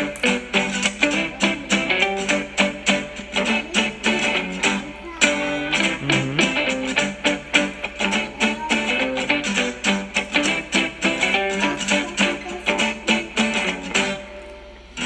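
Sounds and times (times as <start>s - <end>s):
background music with quick beat: 0.0s - 14.3s.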